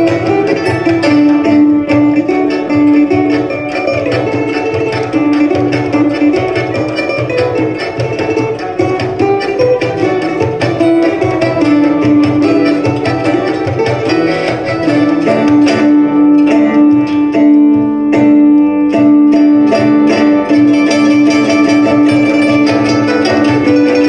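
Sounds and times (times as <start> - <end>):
fast hand drum percussion: 0.0 - 24.0
plucked string melody: 0.0 - 24.0.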